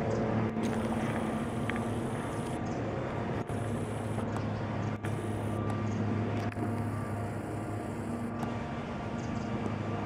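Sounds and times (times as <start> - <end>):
light aircraft engine drone: 0.0 - 10.0.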